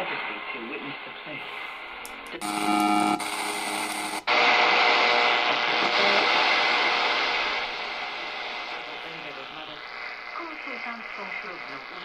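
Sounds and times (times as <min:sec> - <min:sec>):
fm radio audio: 0:00.0 - 0:12.0
radio hiss and static: 0:00.0 - 0:12.0.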